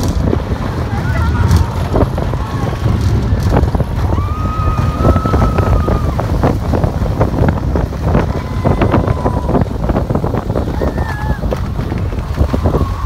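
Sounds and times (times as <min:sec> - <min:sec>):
roller coaster train rumble: 0:00.0 - 0:13.0
wind buffeting microphone: 0:00.0 - 0:13.0.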